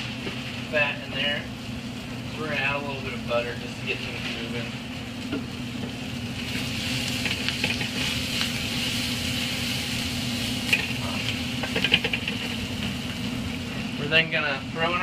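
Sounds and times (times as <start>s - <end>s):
food sizzling in a skillet: 0.0s - 14.4s
steady low hum: 0.0s - 15.0s.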